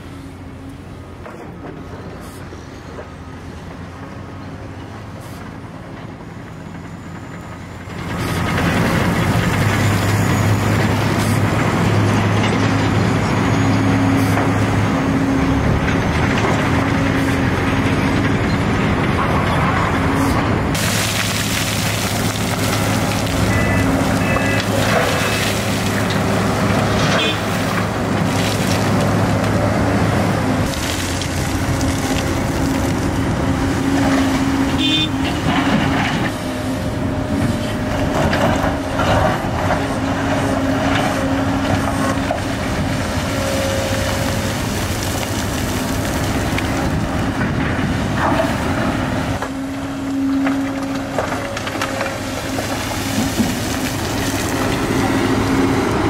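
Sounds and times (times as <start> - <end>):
excavator diesel engine running: 0.0 - 56.0
rock and dirt crunching: 7.0 - 56.0.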